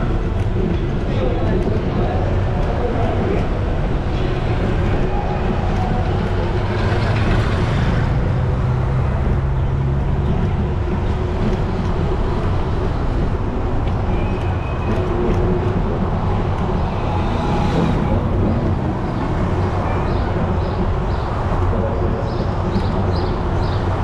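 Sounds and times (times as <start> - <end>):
low engine-like drone: 0.0 - 24.0
street traffic: 0.0 - 24.0
wind on microphone: 0.0 - 24.0.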